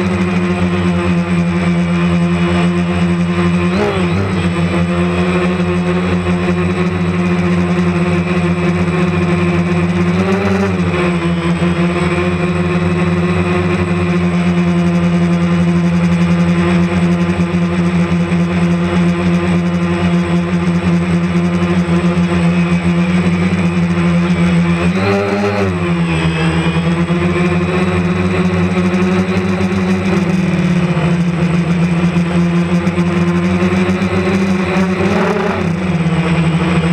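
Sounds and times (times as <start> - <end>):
drone propellers humming: 0.0 - 36.9.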